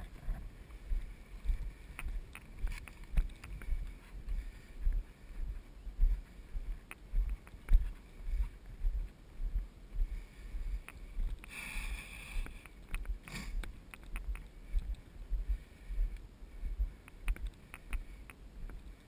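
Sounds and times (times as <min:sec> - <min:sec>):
footsteps on a field: 0:00.0 - 0:19.0.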